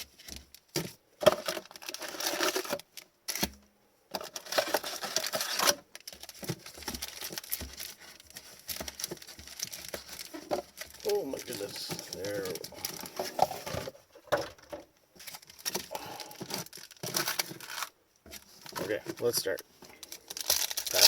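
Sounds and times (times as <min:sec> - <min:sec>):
plastic wrapping crinkling: 0:00.0 - 0:03.5, 0:04.1 - 0:21.0.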